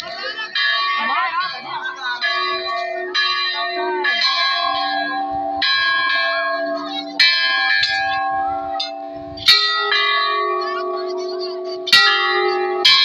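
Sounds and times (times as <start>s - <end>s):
temple bells ringing: 0.0s - 13.0s.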